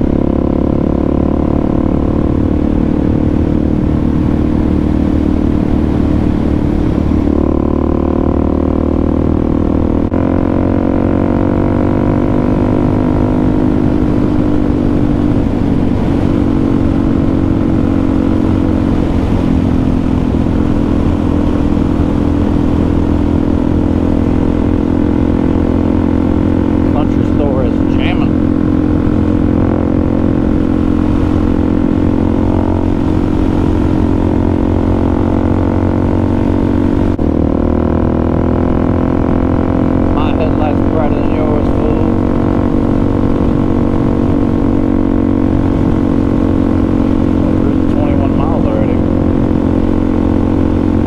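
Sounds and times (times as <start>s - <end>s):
motorcycle engine running: 0.0s - 51.0s
wind noise: 0.0s - 51.0s.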